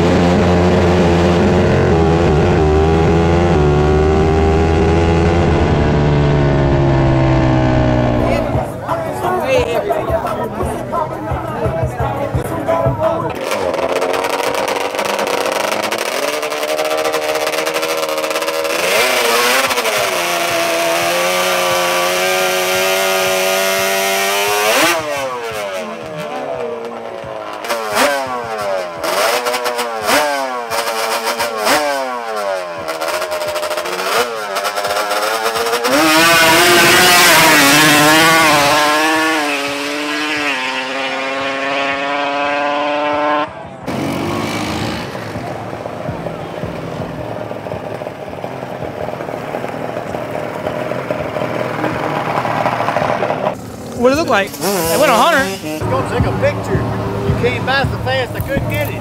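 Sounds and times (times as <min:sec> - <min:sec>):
high-revving racing engine: 0:00.0 - 0:08.8, 0:13.3 - 0:59.0.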